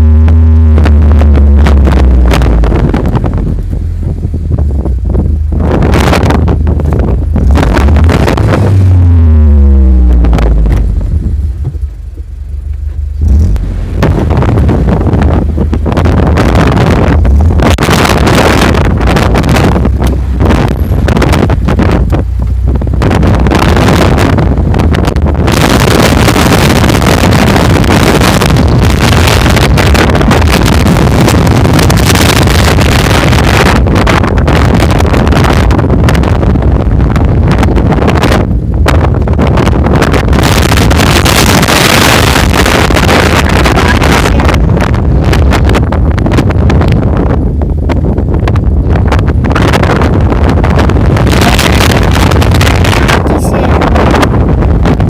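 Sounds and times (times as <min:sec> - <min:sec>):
vehicle engine rumbling: 0:00.0 - 0:55.0
wind buffeting microphone: 0:00.0 - 0:55.0.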